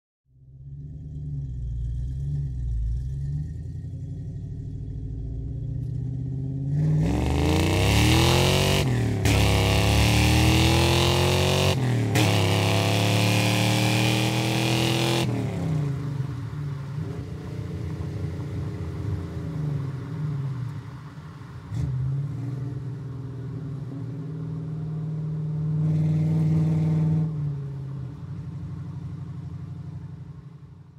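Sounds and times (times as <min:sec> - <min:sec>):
car engine revving and idling: 0:00.4 - 0:30.9.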